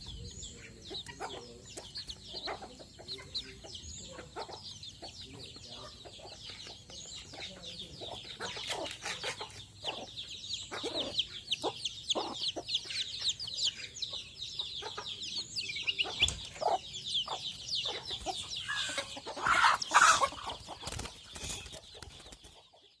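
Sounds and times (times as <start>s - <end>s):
bird singing rapid chirps: 0.0s - 23.0s.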